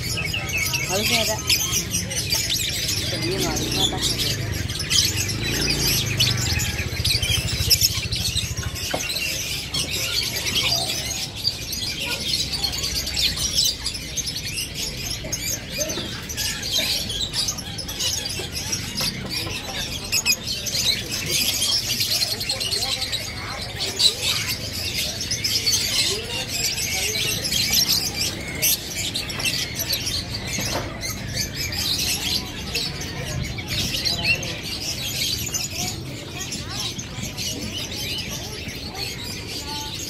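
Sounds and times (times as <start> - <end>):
caged birds chirping: 0.0 - 40.0.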